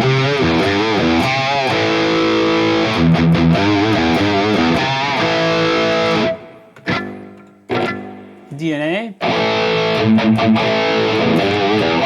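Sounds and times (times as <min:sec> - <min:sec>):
distorted electric guitar riff: 0:00.0 - 0:08.6, 0:09.2 - 0:12.0.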